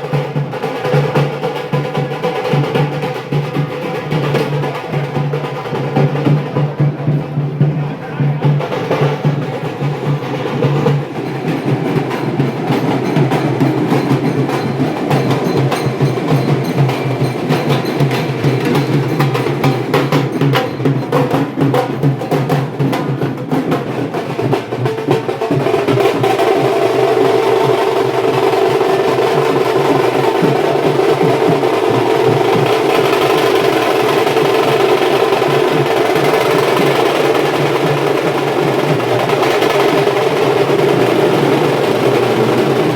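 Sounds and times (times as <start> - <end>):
procession drums beating: 0.0 - 42.9.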